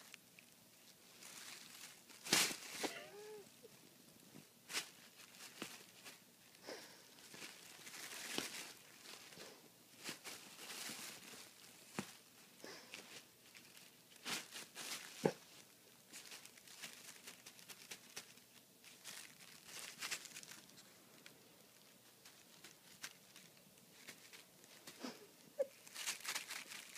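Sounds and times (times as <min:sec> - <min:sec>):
plastic bag crinkling: 0:00.0 - 0:03.4, 0:04.6 - 0:26.9.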